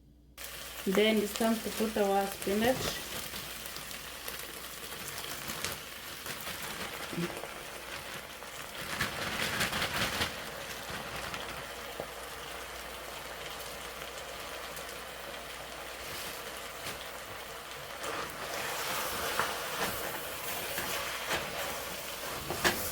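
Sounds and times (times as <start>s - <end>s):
vegetables sizzling in hot oil: 0.4s - 22.9s.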